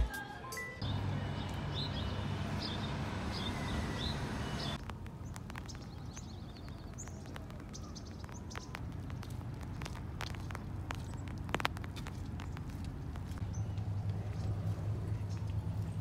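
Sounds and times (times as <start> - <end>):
small birds chirping: 0.8 - 16.0.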